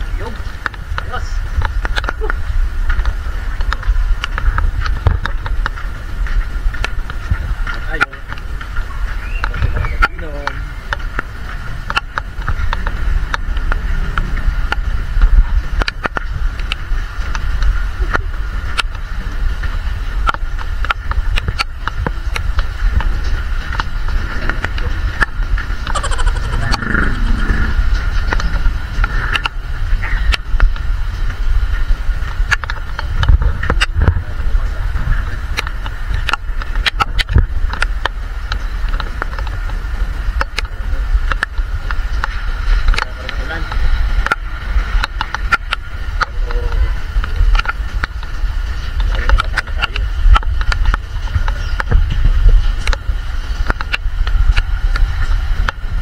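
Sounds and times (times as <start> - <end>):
raindrops ticking on camera: 0.0 - 56.0
steady low rumble: 0.0 - 56.0
wind buffeting microphone: 0.0 - 56.0.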